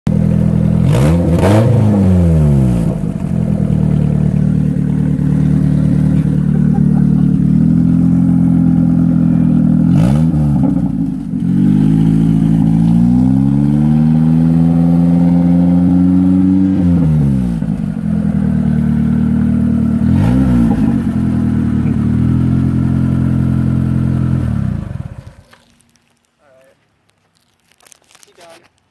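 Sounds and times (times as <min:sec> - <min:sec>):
unmuffled car engine revving: 0:00.1 - 0:25.6.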